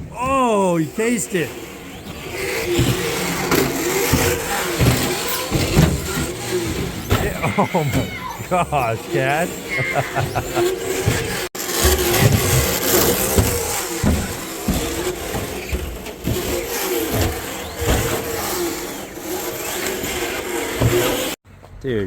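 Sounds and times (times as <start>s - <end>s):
radio-controlled cars revving: 0.0s - 21.4s.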